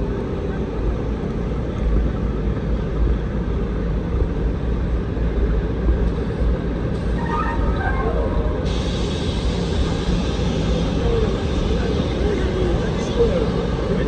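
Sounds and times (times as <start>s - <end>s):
city street rumble: 0.0s - 14.0s.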